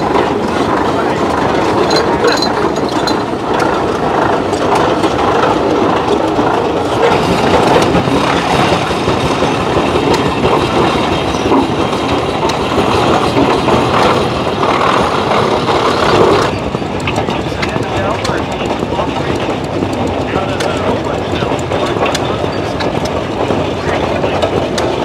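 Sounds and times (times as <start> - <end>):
tractors running: 0.0 - 25.0.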